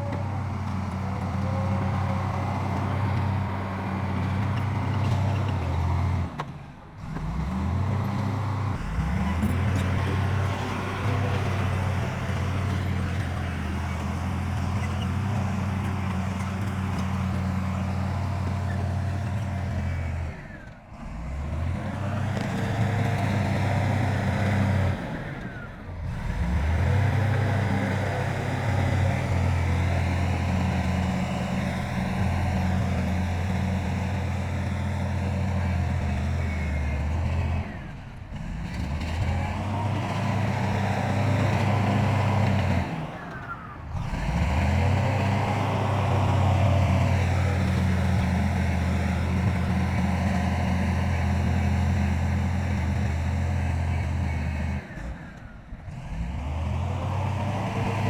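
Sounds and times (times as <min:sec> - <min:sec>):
earthmoving machine diesel engines: 0:00.0 - 0:58.0.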